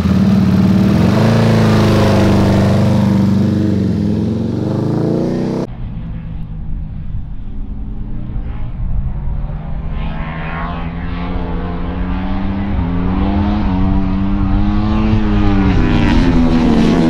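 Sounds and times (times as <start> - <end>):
distant motorcycle engines: 0.0 - 17.0
motorcycle engine running loud: 0.0 - 17.0.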